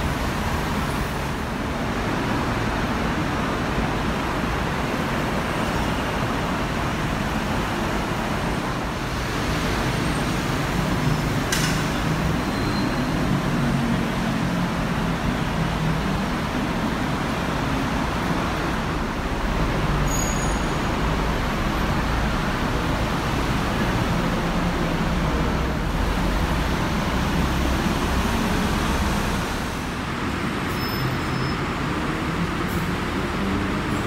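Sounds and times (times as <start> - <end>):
traffic hiss: 0.0 - 34.0.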